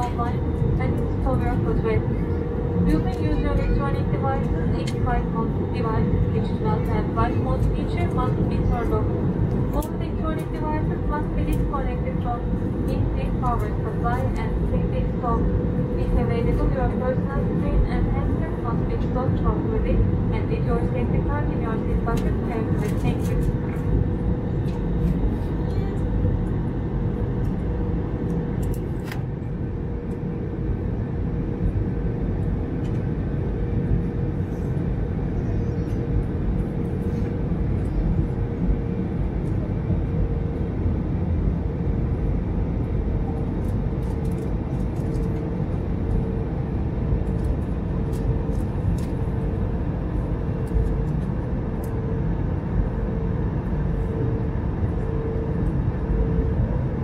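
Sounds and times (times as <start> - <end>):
airliner cabin rumble: 0.0 - 57.0
faint pulsing hum: 0.0 - 57.0.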